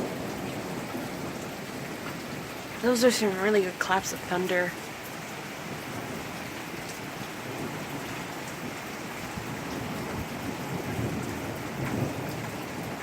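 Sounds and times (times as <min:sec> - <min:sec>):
thunder rumble: 0:00.0 - 0:04.8, 0:07.3 - 0:13.0.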